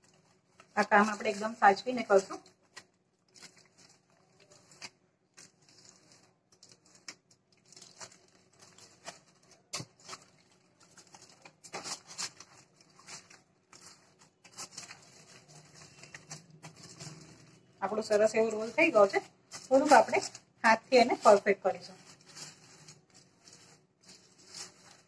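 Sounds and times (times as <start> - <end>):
aluminium foil crinkling: 0.0 - 25.0.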